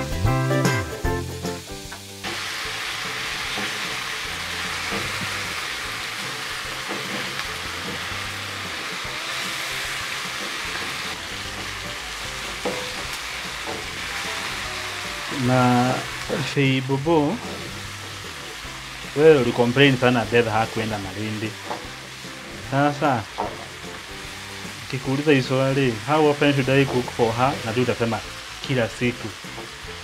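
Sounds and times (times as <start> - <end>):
vegetables sizzling in a wok: 0.0 - 30.0.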